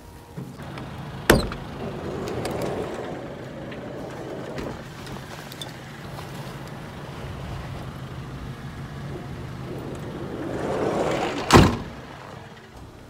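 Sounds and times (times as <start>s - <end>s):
car interior drone: 0.0s - 13.0s
car door shutting: 0.4s - 7.9s, 9.0s - 12.3s.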